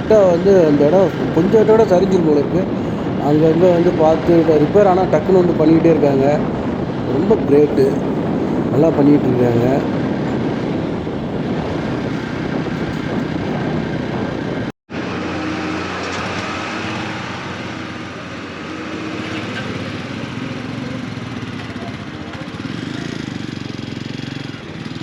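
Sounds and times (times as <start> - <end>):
motorcycle engine running: 0.0 - 25.0
wind rush on microphone: 0.0 - 25.0.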